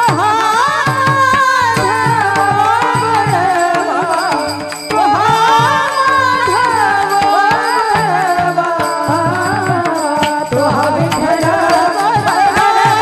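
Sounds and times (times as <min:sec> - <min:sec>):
instrumental accompaniment: 0:00.0 - 0:13.0
person singing devotional song: 0:00.0 - 0:13.0.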